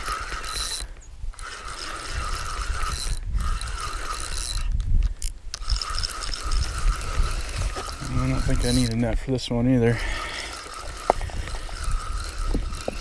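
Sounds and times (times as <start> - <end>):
fishing reel gears whirring: 0.0 - 13.0.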